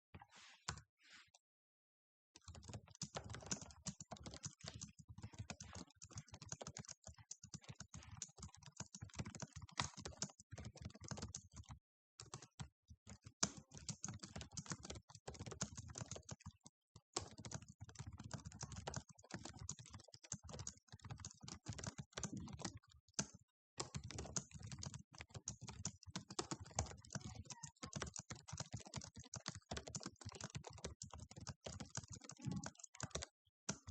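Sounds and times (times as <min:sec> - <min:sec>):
fast keyboard typing: 0:02.4 - 0:33.9.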